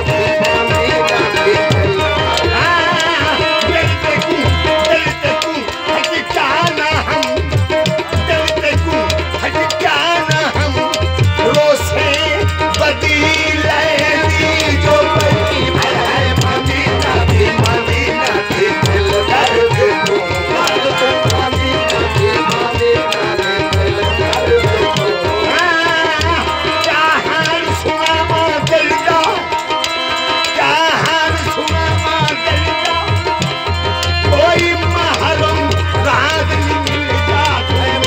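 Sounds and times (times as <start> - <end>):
harmonium held notes: 0.0 - 38.0
person singing: 0.0 - 38.0
tabla rhythm: 0.0 - 38.0.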